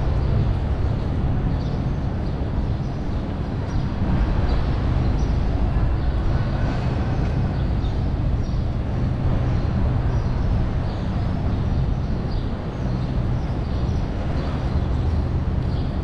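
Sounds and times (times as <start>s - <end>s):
city street hum and rumble: 0.0s - 16.0s.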